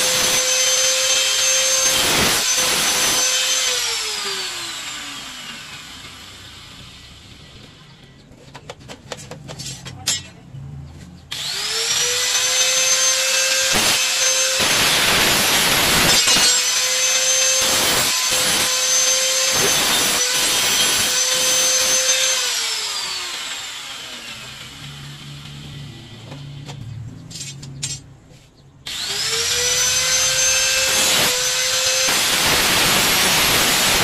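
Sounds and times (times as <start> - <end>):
angle grinder grinding rod: 0.0 - 7.4, 11.3 - 26.6, 28.9 - 34.0.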